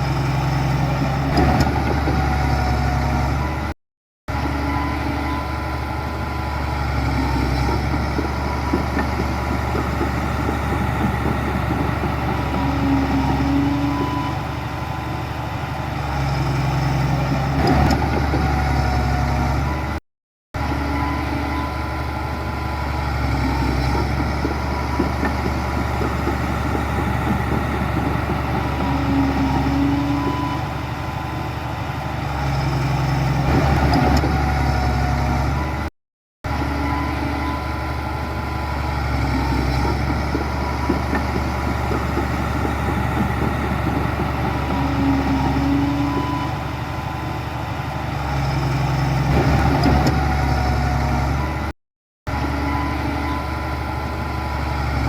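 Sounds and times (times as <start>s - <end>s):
heavy machinery diesel engine running: 0.0s - 3.7s, 4.3s - 20.0s, 20.6s - 51.7s, 52.3s - 55.0s.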